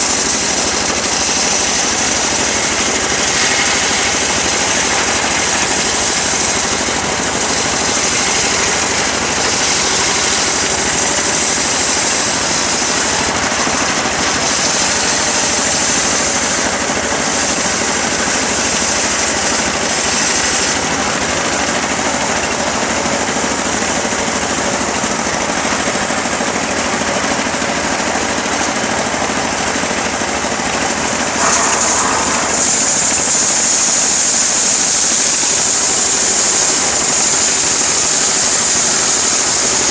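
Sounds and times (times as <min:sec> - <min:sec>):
sawmill sawing log: 0:00.0 - 0:39.9.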